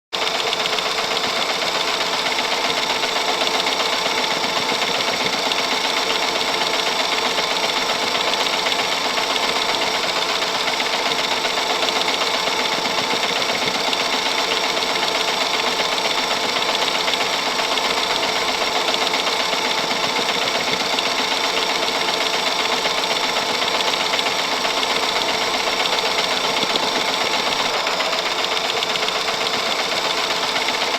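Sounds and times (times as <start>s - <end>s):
film projector mechanical clatter: 0.2s - 30.9s.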